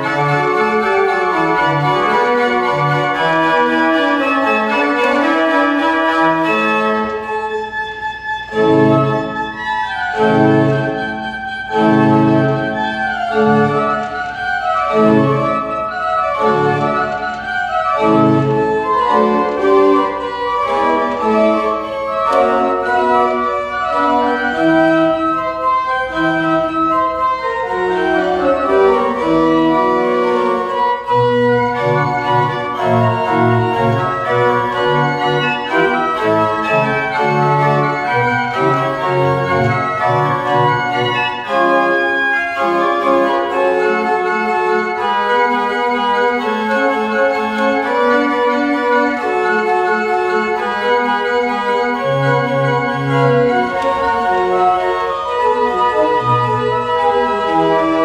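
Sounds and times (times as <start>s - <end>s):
low organ bass notes: 0.0s - 58.0s
pipe organ playing: 0.0s - 58.0s.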